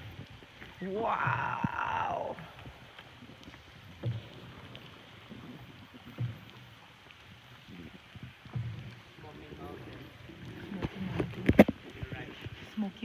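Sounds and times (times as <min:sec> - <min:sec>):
faint water sounds: 0:00.0 - 0:13.0
paddle stroke splashing: 0:00.0 - 0:13.0.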